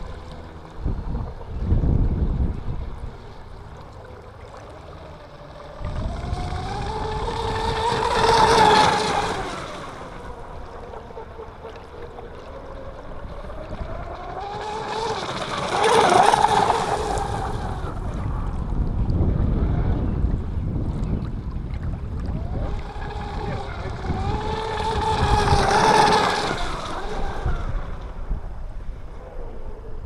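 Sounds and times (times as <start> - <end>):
model speedboat motor whine: 0.0 - 30.0.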